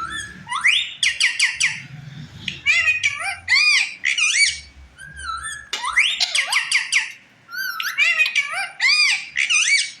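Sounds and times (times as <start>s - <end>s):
parrot chattering and squawking: 0.0s - 10.0s.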